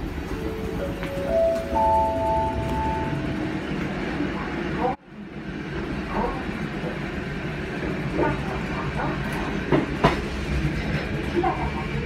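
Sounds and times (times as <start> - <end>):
tram running hum: 0.0 - 12.0.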